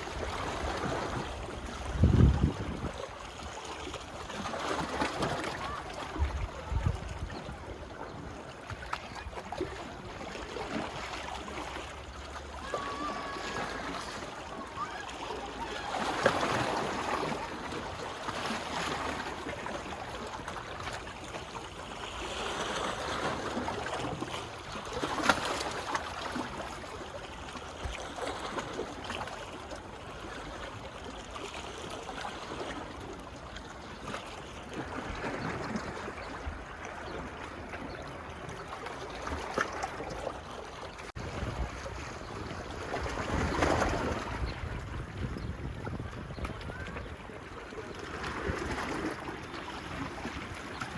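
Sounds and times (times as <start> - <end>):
small waves lapping on shore: 0.0 - 50.9.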